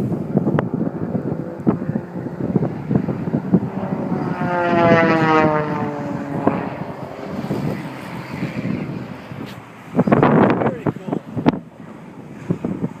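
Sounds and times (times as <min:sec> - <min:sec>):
plane engine droning overhead: 0:00.0 - 0:13.0
wind buffeting microphone: 0:00.0 - 0:13.0.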